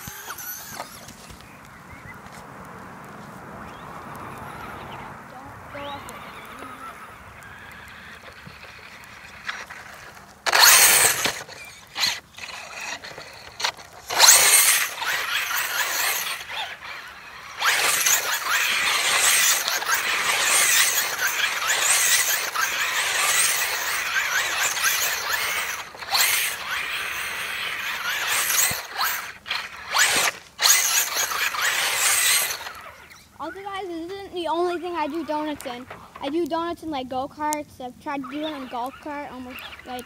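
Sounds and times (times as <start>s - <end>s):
electric motor whining: 0.0s - 36.4s, 38.2s - 40.0s
tyres scrabbling on dirt: 0.0s - 40.0s.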